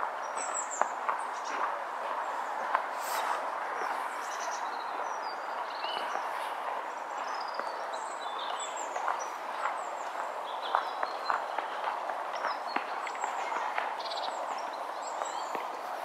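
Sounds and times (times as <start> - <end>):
small birds chirping: 0.0 - 16.0
steady outdoor hiss: 0.0 - 16.0.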